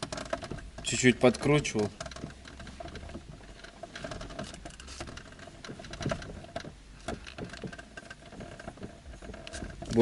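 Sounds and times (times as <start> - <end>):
steering clicking and rubbing: 0.0 - 10.0.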